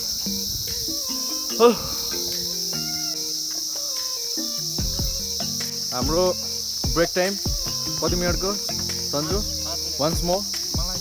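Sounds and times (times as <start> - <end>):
forest insects droning: 0.0 - 11.0.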